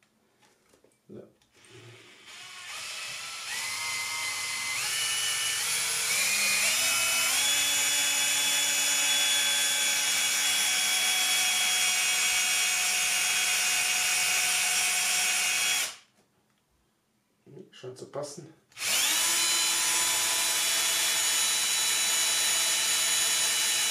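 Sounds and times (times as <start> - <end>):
electric drill whining: 1.6 - 16.0, 18.8 - 23.9.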